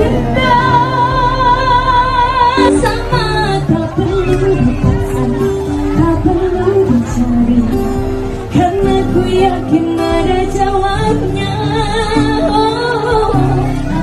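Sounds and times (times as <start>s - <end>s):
accompanying music: 0.0s - 14.0s
women singing into microphones: 0.0s - 14.0s.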